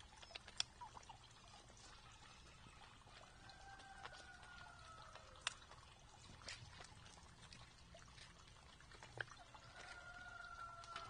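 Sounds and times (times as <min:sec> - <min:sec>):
turkeys pecking at feeders: 0:00.0 - 0:11.0.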